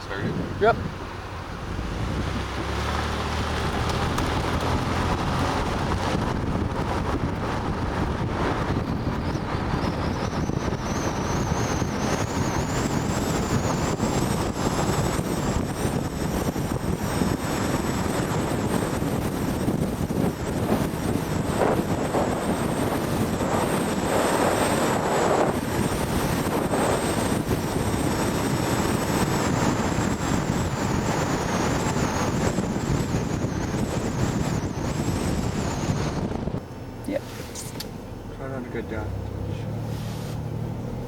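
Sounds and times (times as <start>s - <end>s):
wind on microphone: 0.0s - 36.7s
car engine running: 0.0s - 41.0s.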